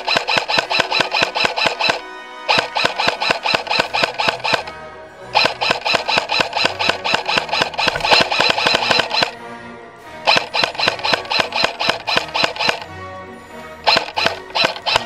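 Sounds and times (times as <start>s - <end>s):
airsoft gun firing full auto: 0.0s - 9.4s, 10.2s - 12.9s, 13.8s - 15.0s.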